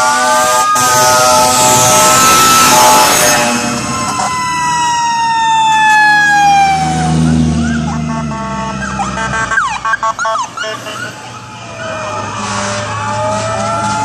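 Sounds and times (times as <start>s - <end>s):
fire truck siren wailing: 0.0s - 14.0s
siren chirps: 0.0s - 14.0s
truck engine rumble: 0.0s - 14.0s.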